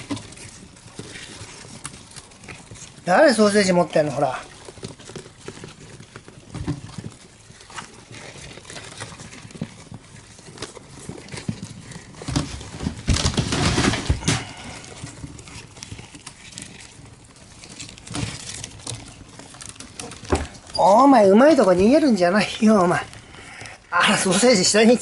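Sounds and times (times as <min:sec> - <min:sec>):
hamsters scrambling on newspaper: 0:00.0 - 0:25.0.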